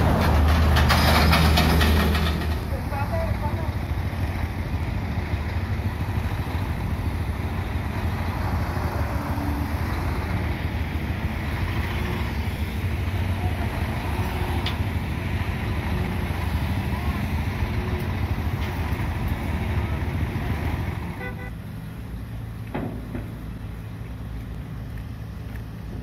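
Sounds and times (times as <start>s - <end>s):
diesel engine idling: 0.0s - 26.0s
road traffic passing: 0.0s - 26.0s.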